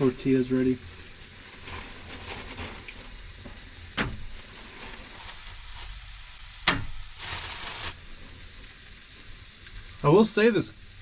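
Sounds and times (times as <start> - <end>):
meat and vegetables sizzling: 0.0 - 11.0.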